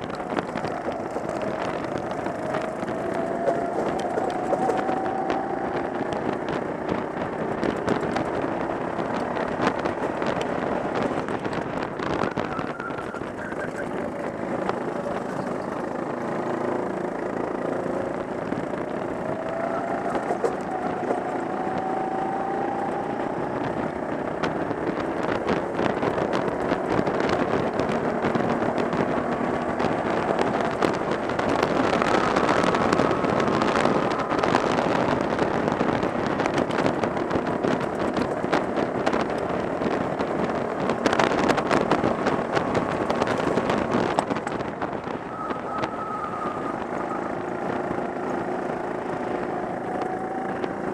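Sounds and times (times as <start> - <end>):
go-kart engine revving: 0.0 - 50.9
wind on microphone: 0.0 - 50.9.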